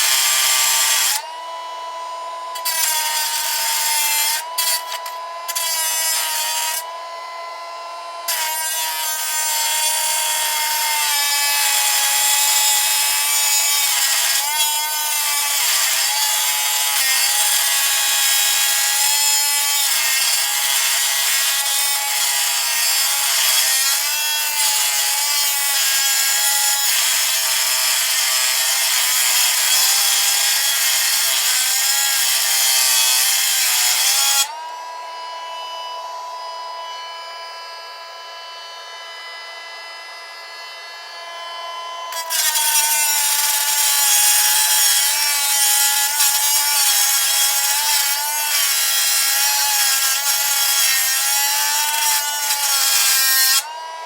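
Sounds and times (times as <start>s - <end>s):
cut-off wheel grinding metal: 0.0s - 7.0s, 8.3s - 34.5s, 42.0s - 53.8s.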